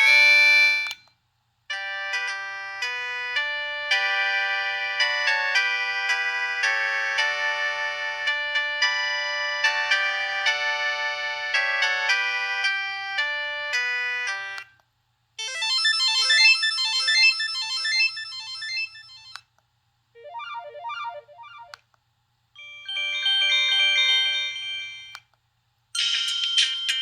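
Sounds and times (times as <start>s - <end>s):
phone ringtone melodies: 0.0s - 1.0s, 1.7s - 14.6s, 15.4s - 19.4s, 20.2s - 21.8s, 22.6s - 25.2s.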